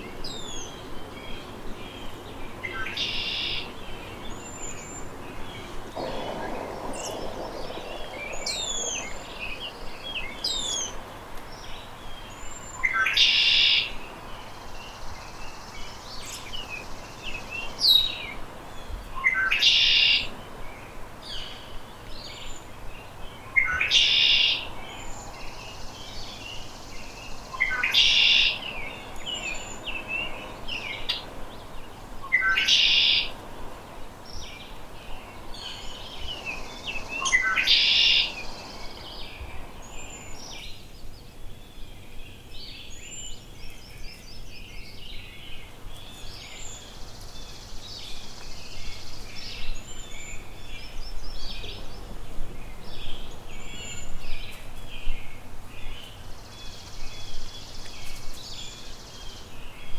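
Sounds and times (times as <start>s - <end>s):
blackbird song with buzzy trill: 0.0s - 33.4s, 34.3s - 59.9s.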